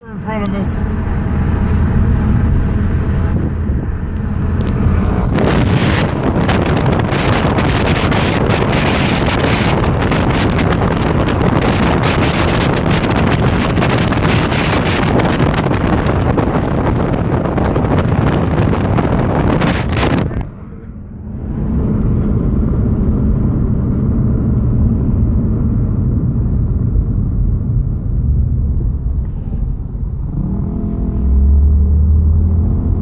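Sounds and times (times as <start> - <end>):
car engine and road hum: 0.0 - 33.0
wind buffeting microphone: 0.8 - 33.0.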